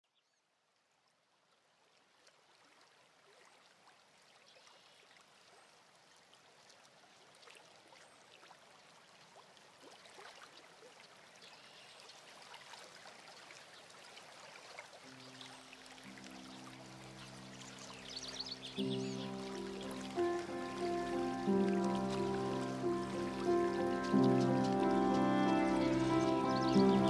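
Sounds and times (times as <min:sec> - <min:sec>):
faint running water: 0:00.9 - 0:27.0.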